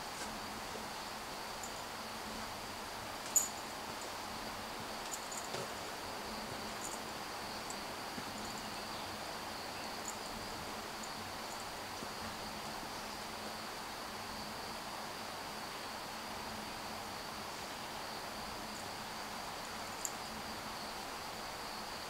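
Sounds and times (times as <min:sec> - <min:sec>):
soft even hiss: 0:00.0 - 0:22.0
high-pitched insect chorus: 0:00.5 - 0:22.0.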